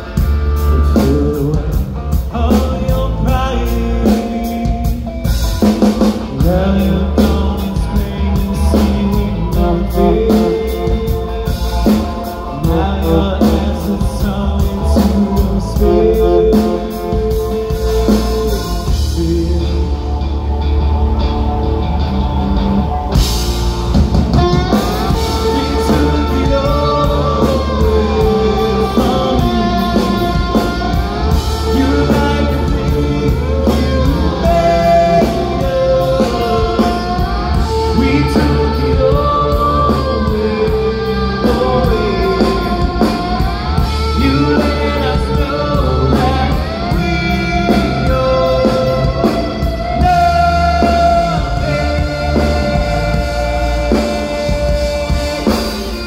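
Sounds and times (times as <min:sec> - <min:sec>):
steady drum beat: 0:00.0 - 0:20.7, 0:21.7 - 0:56.0
person singing: 0:00.0 - 0:21.2, 0:24.3 - 0:56.0
rock band playing live: 0:00.0 - 0:56.0.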